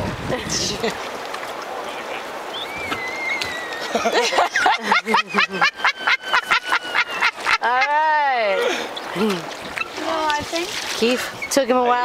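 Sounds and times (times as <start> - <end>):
people chattering and laughing: 0.0 - 1.2, 3.5 - 12.0
river water rushing: 0.0 - 12.0.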